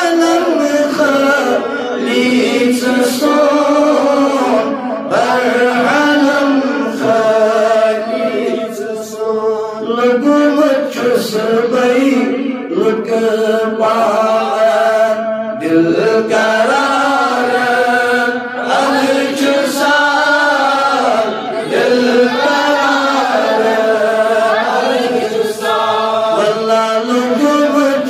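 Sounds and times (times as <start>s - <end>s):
man singing unaccompanied: 0.0s - 28.0s.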